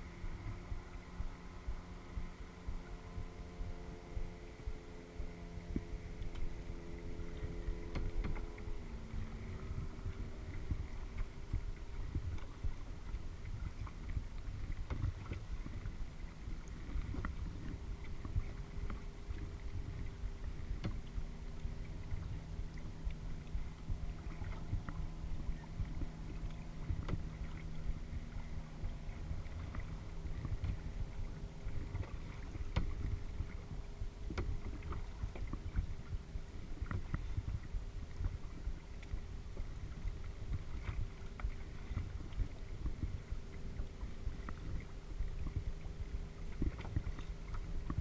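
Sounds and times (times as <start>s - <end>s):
faint steady drone: 0.0s - 48.0s
low rumble of water: 0.0s - 48.0s
paddle splashing water: 0.0s - 48.0s
wind on microphone: 0.0s - 48.0s.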